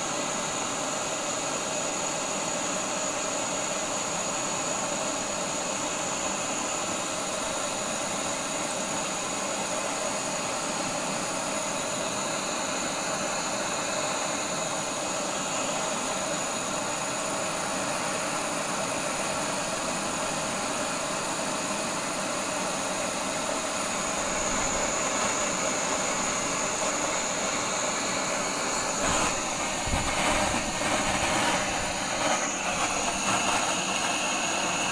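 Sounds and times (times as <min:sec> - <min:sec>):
blowtorch flame rushing: 0:00.0 - 0:34.9.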